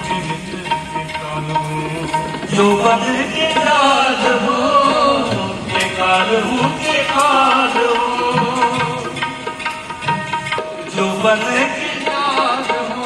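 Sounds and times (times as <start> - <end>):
person singing: 0.0 - 9.6, 10.8 - 13.0
held instrumental tones: 0.0 - 13.0.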